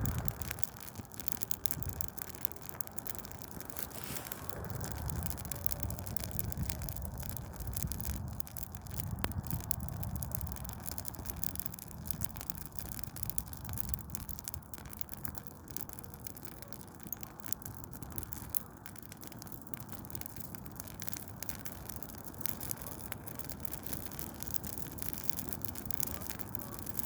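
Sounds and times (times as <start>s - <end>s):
burning tree crackling: 0.0s - 27.0s
low rumble of fire: 0.0s - 27.0s.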